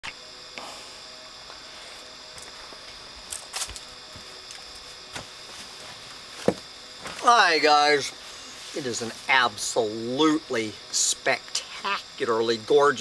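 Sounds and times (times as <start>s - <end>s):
faint high-pitched hum: 0.0s - 13.0s.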